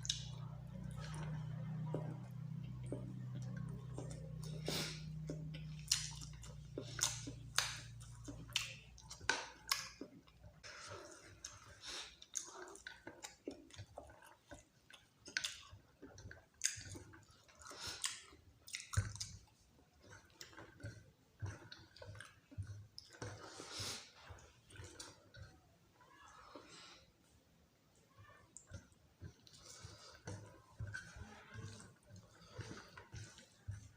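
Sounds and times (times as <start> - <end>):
chewing and mouth smacking: 0.0 - 27.1, 28.2 - 33.9.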